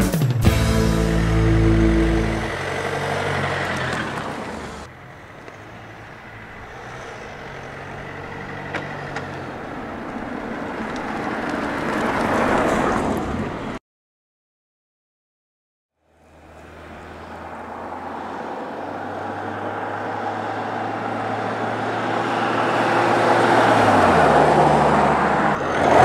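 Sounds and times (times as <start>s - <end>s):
car engine and tyre noise: 0.9s - 13.8s, 16.0s - 26.0s.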